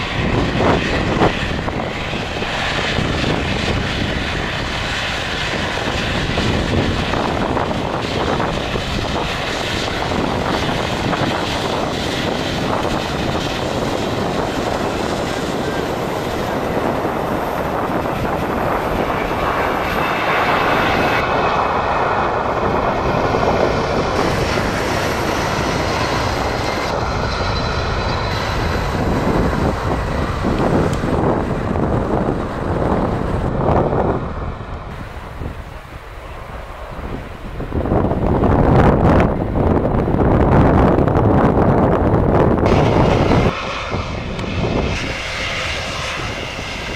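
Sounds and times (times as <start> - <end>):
airliner engines running: 0.0 - 46.9.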